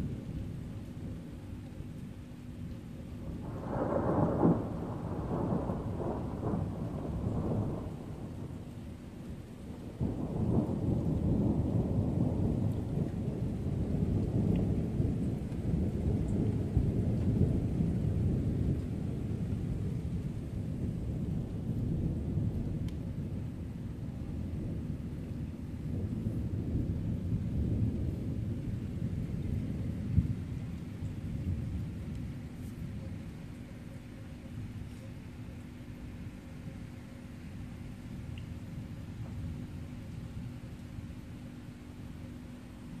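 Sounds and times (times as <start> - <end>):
steady rain: 0.0 - 43.0
thunder rumbling: 3.2 - 43.0.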